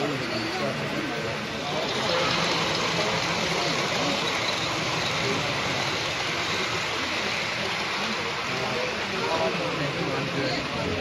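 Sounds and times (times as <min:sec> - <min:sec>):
crowd chatter: 0:00.0 - 0:11.0
model train rolling: 0:00.0 - 0:11.0.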